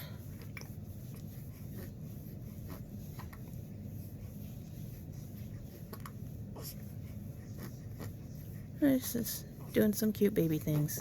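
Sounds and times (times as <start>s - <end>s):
infant rustling: 0.0s - 11.0s
steady low hum: 0.0s - 11.0s.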